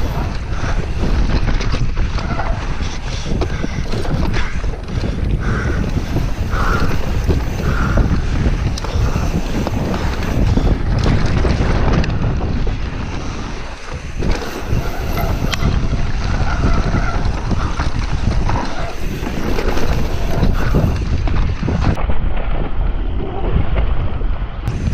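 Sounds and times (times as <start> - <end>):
bike rattling clicks: 0.0 - 22.0
tyres rumbling over dirt: 0.0 - 22.0
wind rushing over microphone: 0.0 - 24.9.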